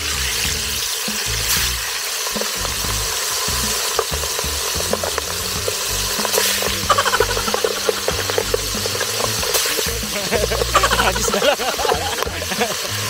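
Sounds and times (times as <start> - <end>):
meat sizzling in hot oil: 0.0 - 13.0
oil spattering pops: 1.1 - 13.0.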